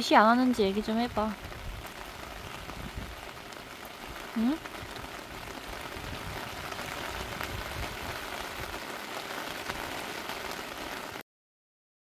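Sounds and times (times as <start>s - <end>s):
rain on wet pavement: 0.0s - 11.2s.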